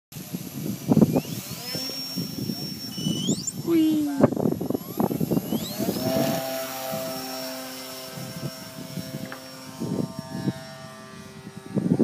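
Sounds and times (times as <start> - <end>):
model plane motor whining: 0.2 - 12.0.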